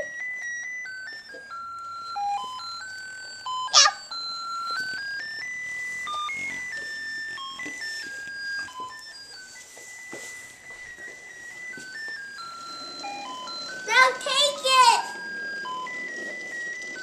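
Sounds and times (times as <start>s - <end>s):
simple electronic melody: 0.0s - 17.0s.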